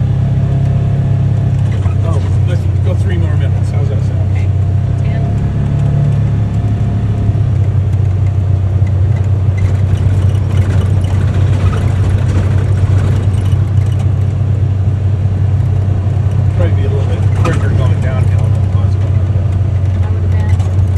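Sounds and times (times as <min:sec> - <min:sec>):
driving noise: 0:00.0 - 0:20.9
utility vehicle engine running: 0:00.0 - 0:20.9.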